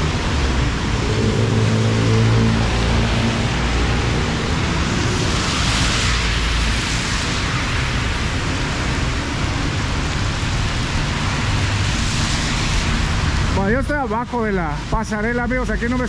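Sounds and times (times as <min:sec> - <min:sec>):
heavy rain pouring: 0:00.0 - 0:16.0
road traffic rumble: 0:00.0 - 0:16.0.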